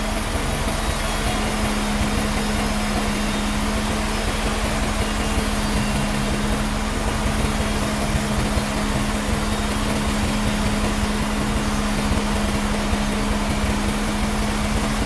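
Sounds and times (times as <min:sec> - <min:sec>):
sawmill machinery humming: 0:00.0 - 0:15.0.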